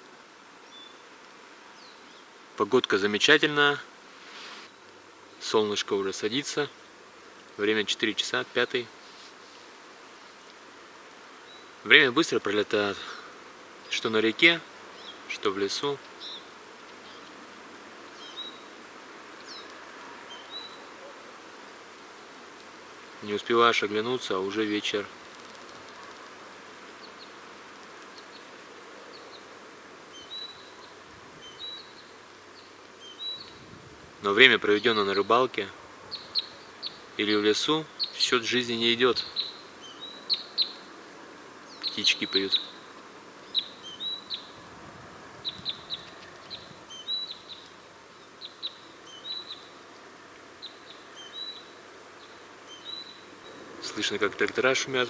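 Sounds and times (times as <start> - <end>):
faint outdoor hiss: 0.0 - 55.0
small songbirds chirping: 0.5 - 3.8, 4.4 - 55.0.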